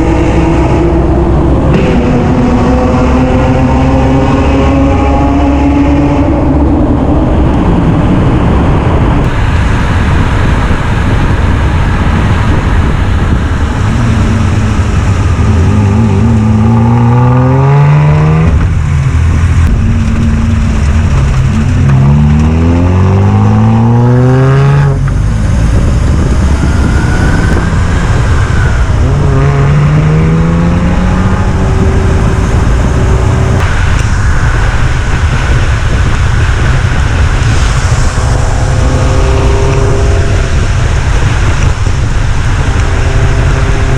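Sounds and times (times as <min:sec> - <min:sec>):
car engine accelerating: 0:00.0 - 0:43.9
road noise: 0:00.0 - 0:43.9.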